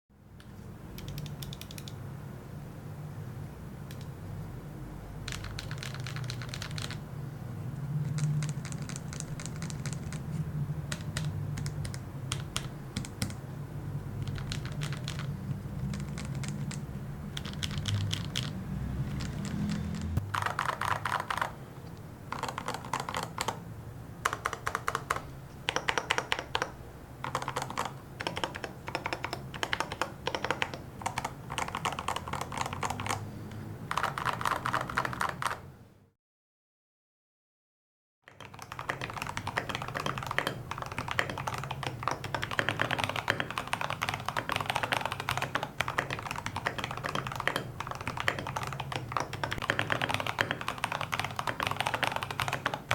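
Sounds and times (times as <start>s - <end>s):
mechanical keyboard keystrokes: 0.4s - 2.0s, 3.9s - 4.2s, 5.2s - 7.0s, 8.0s - 13.4s, 14.2s - 21.6s, 22.3s - 23.6s, 24.2s - 33.2s, 33.9s - 35.7s, 38.3s - 52.9s.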